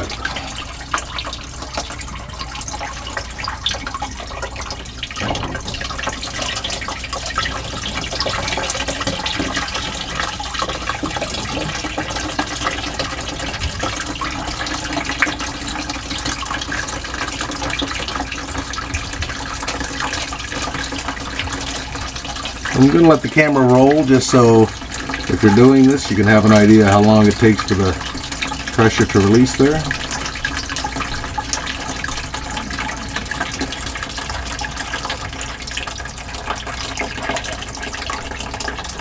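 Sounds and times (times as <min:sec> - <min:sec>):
water dripping into plastic bucket: 0:00.0 - 0:39.0.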